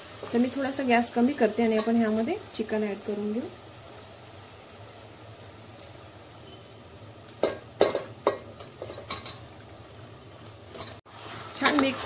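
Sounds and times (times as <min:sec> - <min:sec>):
oil sizzling in pot: 0:00.0 - 0:12.0.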